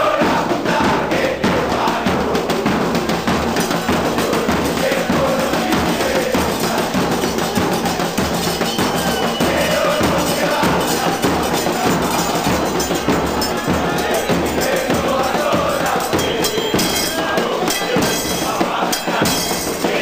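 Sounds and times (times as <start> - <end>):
crowd singing a chant: 0.0 - 20.0
bass drums beating: 0.4 - 20.0.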